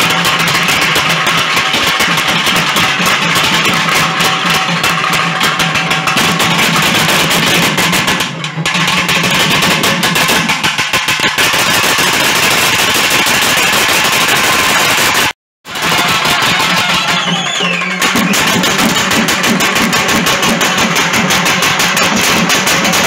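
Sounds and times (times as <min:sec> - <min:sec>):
barrel drums beaten with sticks: 0:00.0 - 0:23.0.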